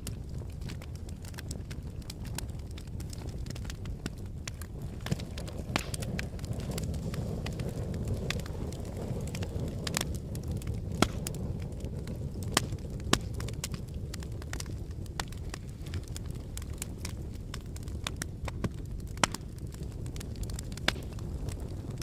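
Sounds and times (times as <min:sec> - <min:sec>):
lava cracks and pops: 0:00.0 - 0:22.0
lava low rumble: 0:00.0 - 0:22.0.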